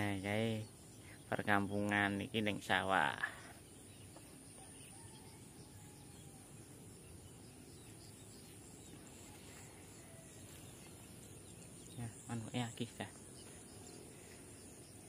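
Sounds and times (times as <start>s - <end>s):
distant bird chirps: 0.0s - 15.0s
insect hum: 0.0s - 15.0s.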